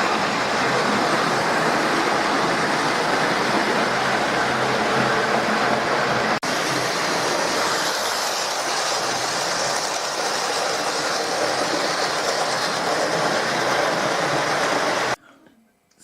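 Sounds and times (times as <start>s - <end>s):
model train whirring on track: 0.0s - 15.2s.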